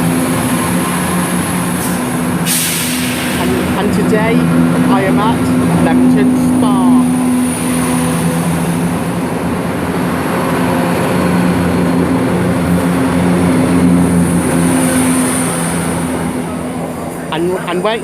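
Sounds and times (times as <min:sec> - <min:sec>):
diesel engine drone: 0:00.0 - 0:18.0
train running noise: 0:00.0 - 0:18.0.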